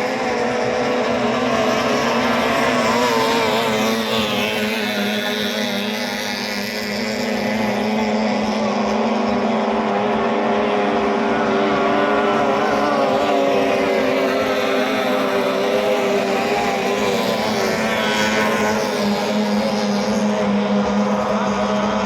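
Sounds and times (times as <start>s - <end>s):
outboard motor running at speed: 0.0s - 22.0s.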